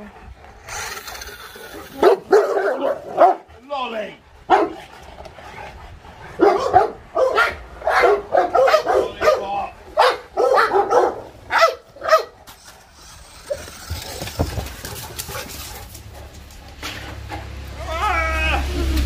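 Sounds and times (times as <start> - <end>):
dogs barking and yipping: 0.0 - 3.6, 4.4 - 19.0.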